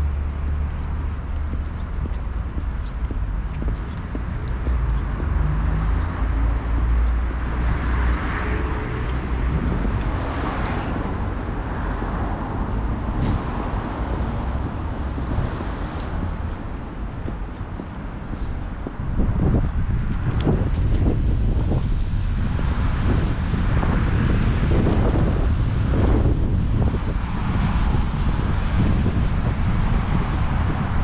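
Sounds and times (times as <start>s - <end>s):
steady hum of cars: 0.0s - 31.0s
vehicle passing: 0.0s - 31.0s.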